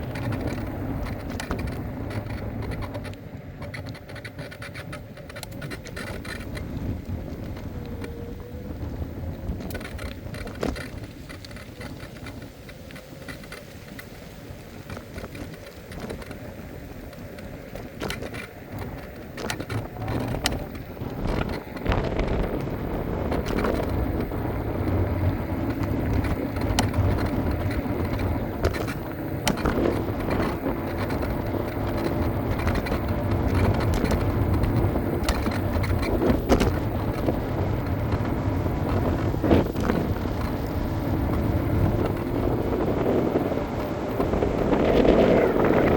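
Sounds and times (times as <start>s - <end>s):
small clicks and rattles: 0.0s - 45.9s
wheels rolling on pavement: 0.0s - 45.9s
wind on microphone: 0.0s - 45.9s.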